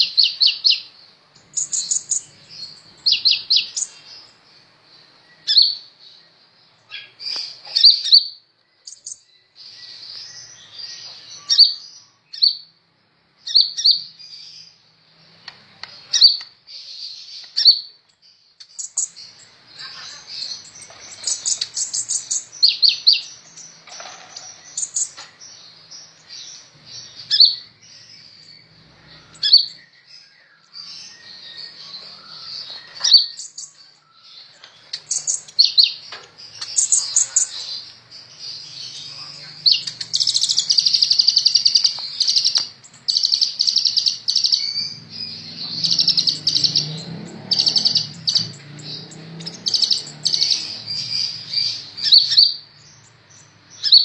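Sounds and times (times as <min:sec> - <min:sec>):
bird chirping and trilling: 0:00.0 - 0:12.8, 0:13.4 - 0:54.0.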